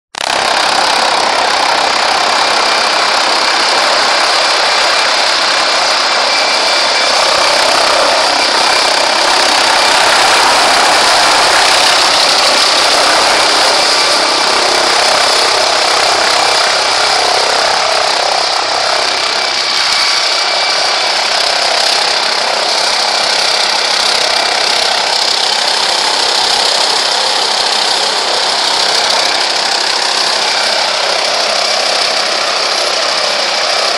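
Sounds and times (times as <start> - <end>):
helicopter flying low: 0.1 - 33.9.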